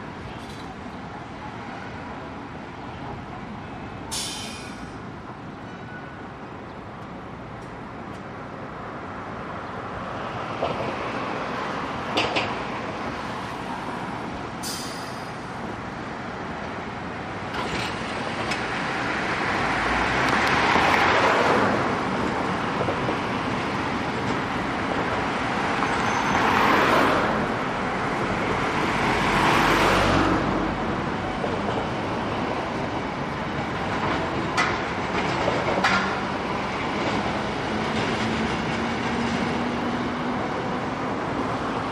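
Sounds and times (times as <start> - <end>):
road traffic passing: 0.0 - 41.9
streetcar motors growling: 0.0 - 41.9.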